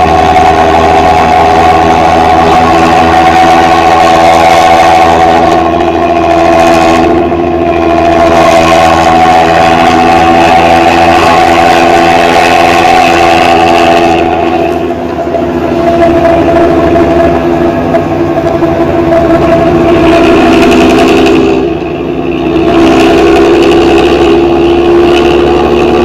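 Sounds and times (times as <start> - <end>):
bus engine snoring exhaust: 0.0 - 26.0.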